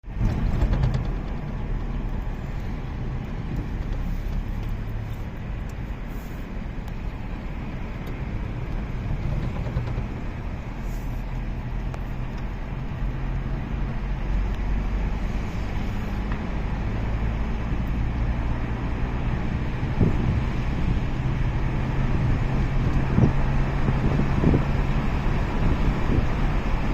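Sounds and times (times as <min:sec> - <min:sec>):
vehicle engine hum and road rumble: 0:00.0 - 0:26.9.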